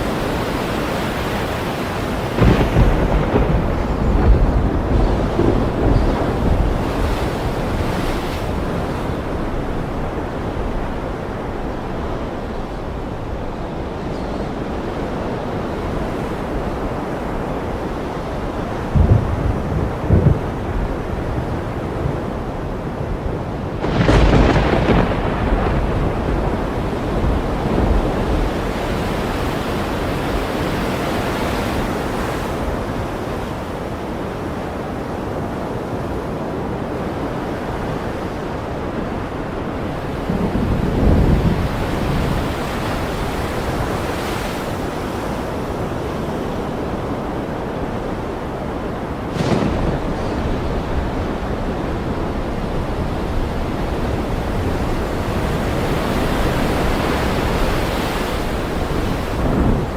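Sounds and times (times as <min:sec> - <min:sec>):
ocean surf washing: 0:00.0 - 0:59.9.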